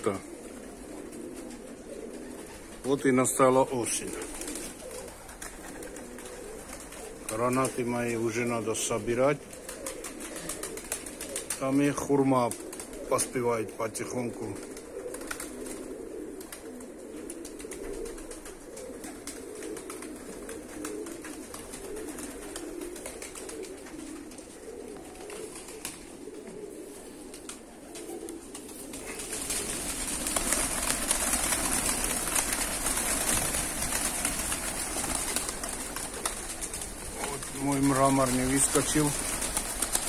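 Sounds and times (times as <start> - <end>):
pigeons cooing: 0.0 - 40.0
wings flapping: 0.0 - 40.0.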